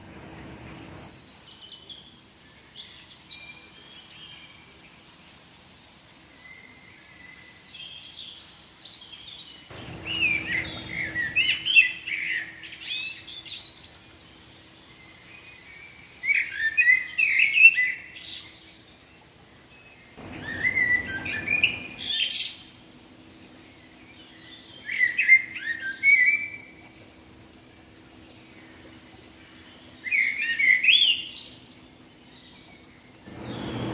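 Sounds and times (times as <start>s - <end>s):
birds twittering quietly: 0.0s - 33.9s
small birds chirping and singing: 0.0s - 33.9s.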